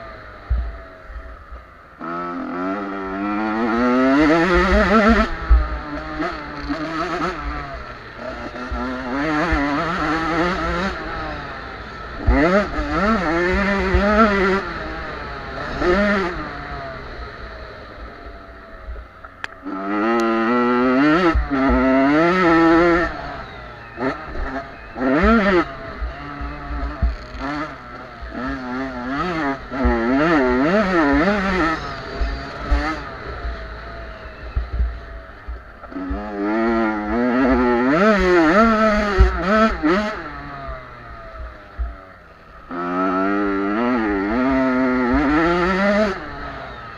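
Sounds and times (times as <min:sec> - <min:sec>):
motocross bikes revving: 0:00.0 - 0:46.9.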